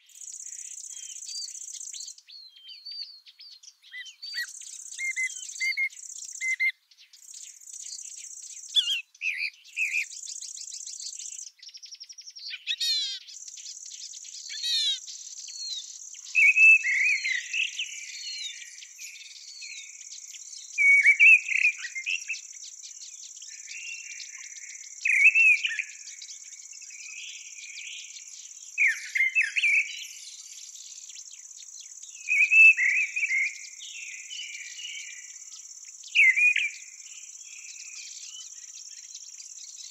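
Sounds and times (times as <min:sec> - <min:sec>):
bird singing short phrases: 0:00.0 - 0:39.9.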